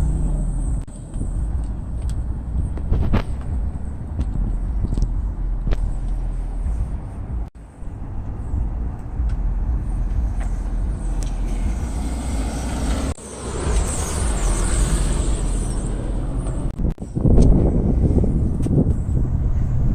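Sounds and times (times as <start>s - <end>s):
car wheels and road rumble: 0.0s - 19.9s.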